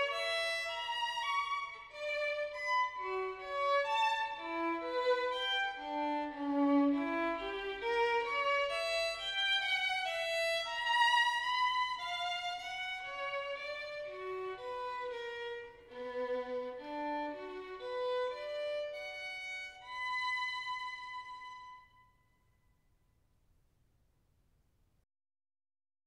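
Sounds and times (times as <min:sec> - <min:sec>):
violin melody: 0:00.0 - 0:22.2.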